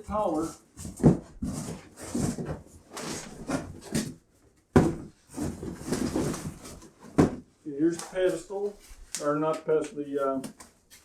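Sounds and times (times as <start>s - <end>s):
packaging rustling and scraping: 0.2s - 9.2s.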